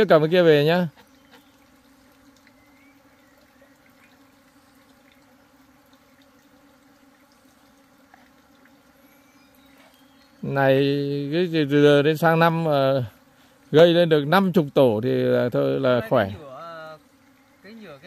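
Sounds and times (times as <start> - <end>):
honeybees humming: 0.0 - 18.0.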